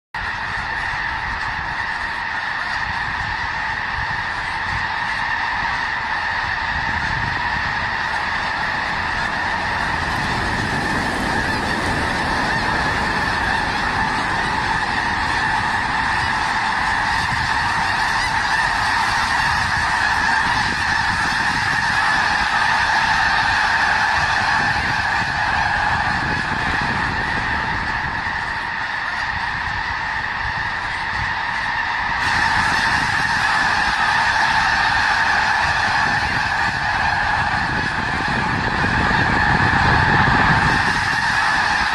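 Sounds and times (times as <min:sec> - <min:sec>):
flock of birds calling: 0:00.2 - 0:41.9.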